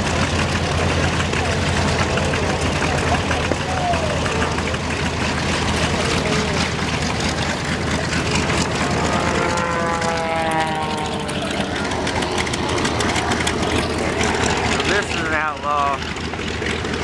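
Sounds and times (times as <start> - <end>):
propeller engines droning: 0.0 - 17.0.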